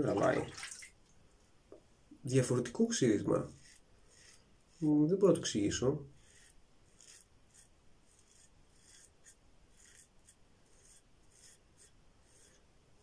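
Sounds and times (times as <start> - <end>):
razor scraping stubble: 2.5 - 13.0.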